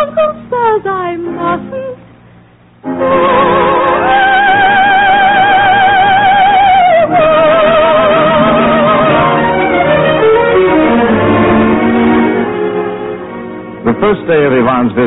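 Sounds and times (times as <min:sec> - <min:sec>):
studio orchestra: 0:00.0 - 0:15.0.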